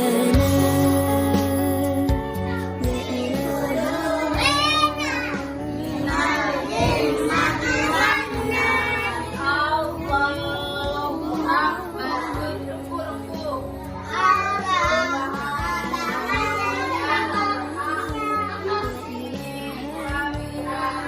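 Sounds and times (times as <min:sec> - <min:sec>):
backing music: 0:00.0 - 0:21.0
children singing: 0:00.0 - 0:21.0.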